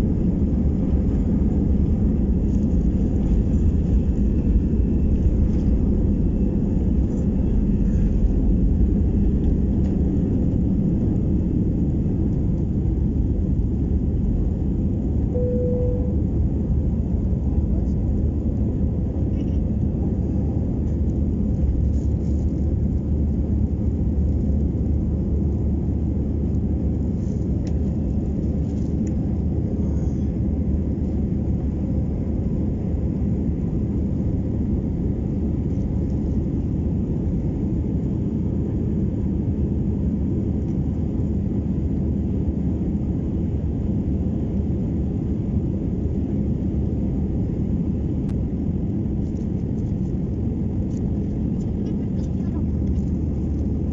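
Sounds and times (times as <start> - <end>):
airliner engine rumble in cabin: 0.0 - 53.9.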